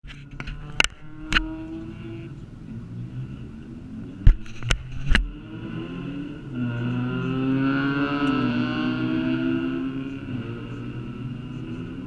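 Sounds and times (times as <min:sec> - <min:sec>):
low vehicle hum: 0:00.0 - 0:12.0.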